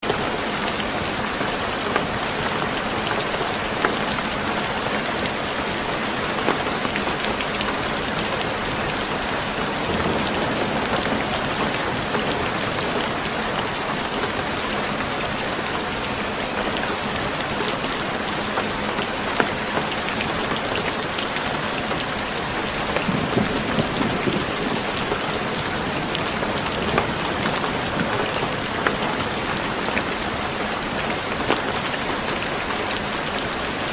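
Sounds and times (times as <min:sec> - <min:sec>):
rain falling on a roof: 0:00.0 - 0:33.9.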